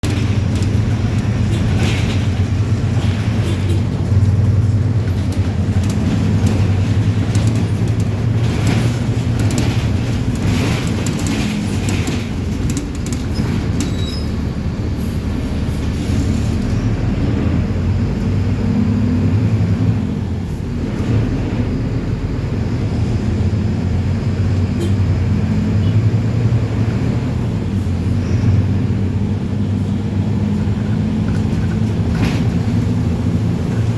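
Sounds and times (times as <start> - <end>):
bus diesel engine droning: 0.0 - 33.9.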